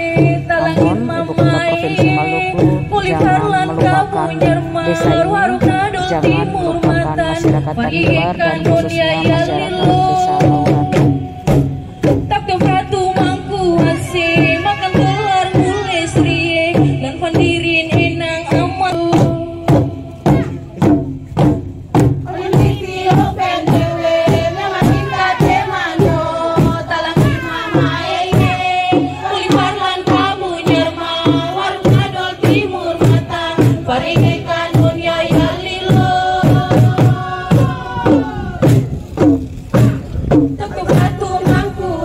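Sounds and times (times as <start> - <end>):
group singing chant-like song: 0.0 - 16.8, 21.9 - 42.0
large drum beating: 0.0 - 42.0.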